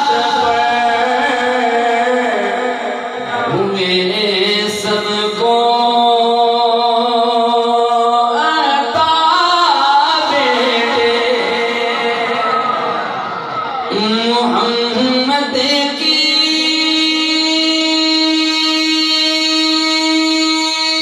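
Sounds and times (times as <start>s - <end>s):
man chanting: 0.0s - 13.0s, 13.8s - 21.0s.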